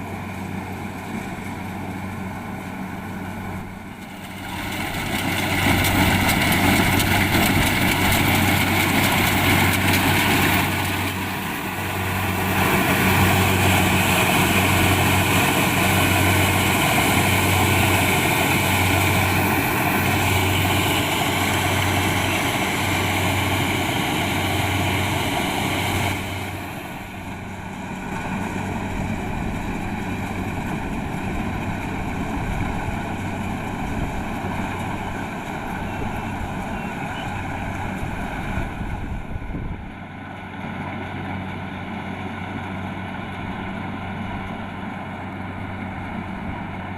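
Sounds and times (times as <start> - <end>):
combine harvester engine drone: 0.0 - 46.9.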